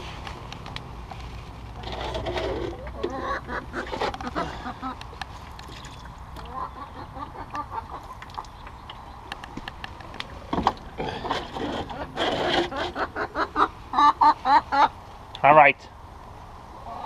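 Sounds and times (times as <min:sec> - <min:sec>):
hens clucking: 0:01.7 - 0:15.3, 0:16.7 - 0:17.0.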